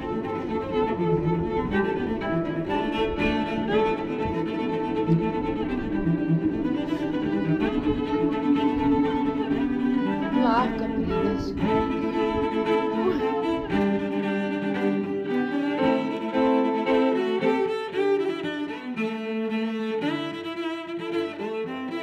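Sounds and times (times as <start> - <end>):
bowed strings music: 0.0 - 22.0.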